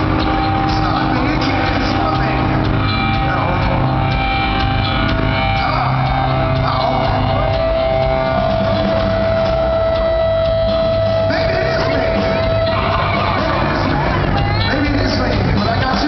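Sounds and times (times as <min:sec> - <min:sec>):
live rock band: 0:00.0 - 0:16.0.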